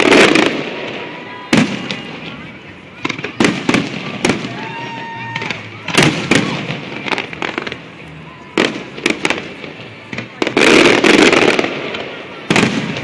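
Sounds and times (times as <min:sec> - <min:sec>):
firework whistle: 0:00.0 - 0:13.0
fireworks crackling: 0:00.0 - 0:13.0.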